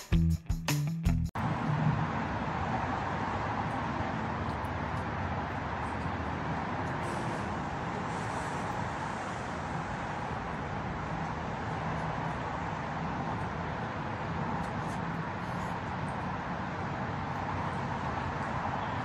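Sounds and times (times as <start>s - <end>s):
road traffic hum: 0.9s - 19.0s.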